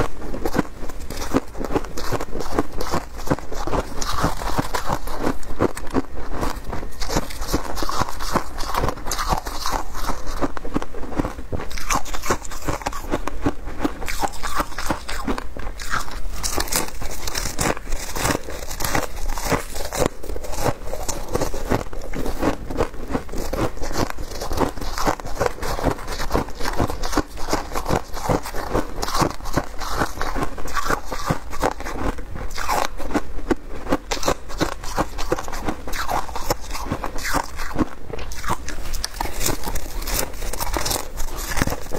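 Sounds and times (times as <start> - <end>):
shaved ice crunching when chewed: 0.0 - 41.9.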